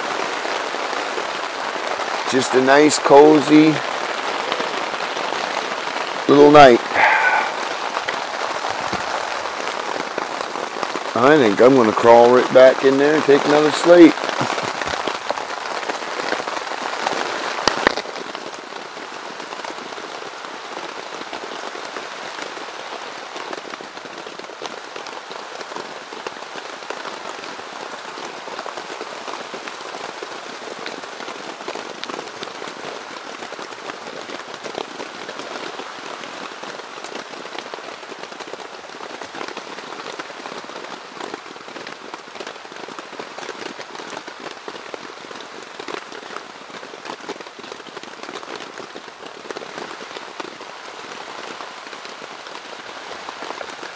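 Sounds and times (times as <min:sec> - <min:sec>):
heavy rain on tent fabric: 0:00.0 - 0:53.9.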